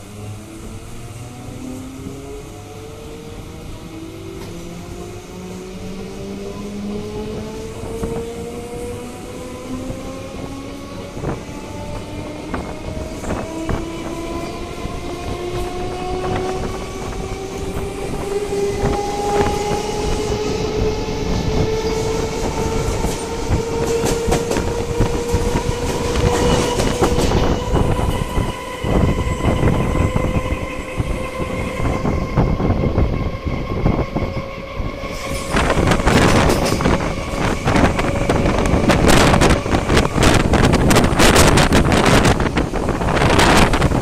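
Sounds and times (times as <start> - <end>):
train traction motor whine: 0.0 - 44.0
wind buffeting microphone: 0.0 - 44.0.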